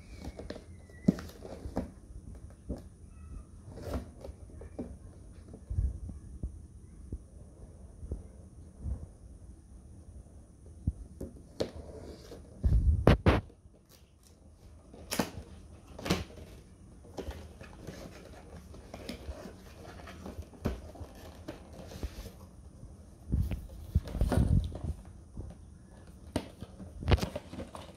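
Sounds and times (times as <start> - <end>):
cardboard rustling and scraping: 0.0 - 6.0, 11.2 - 27.9.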